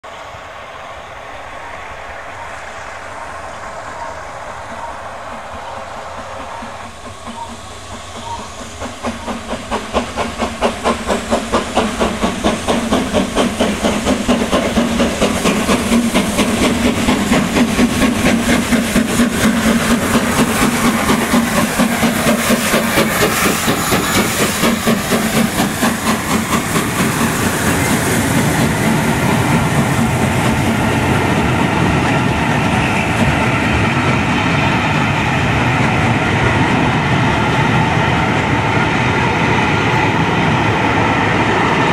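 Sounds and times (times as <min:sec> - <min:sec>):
steam locomotive exhaust beats: 0:00.0 - 0:41.9
clickety-clack of train wheels: 0:02.3 - 0:41.9.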